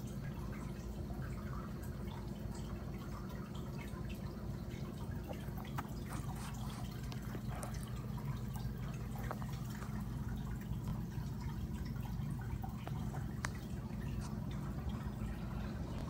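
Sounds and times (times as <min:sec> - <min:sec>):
aquarium low hum: 0:00.0 - 0:16.0
water dripping: 0:00.0 - 0:16.0.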